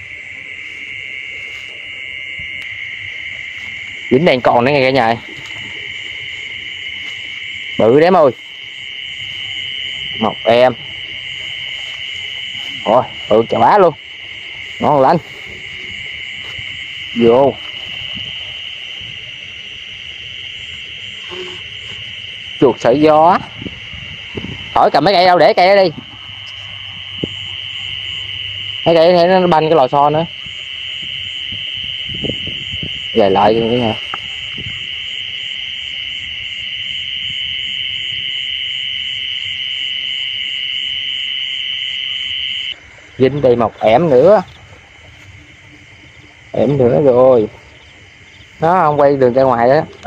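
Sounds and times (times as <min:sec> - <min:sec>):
crickets trilling: 0:00.0 - 0:50.0.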